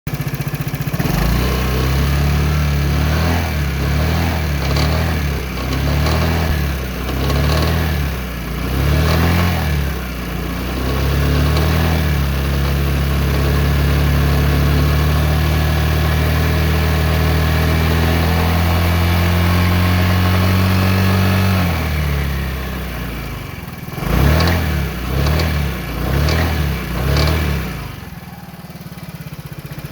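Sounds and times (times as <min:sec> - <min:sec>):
engine rattle: 0:00.1 - 0:29.9
scooter engine revving: 0:00.1 - 0:29.9.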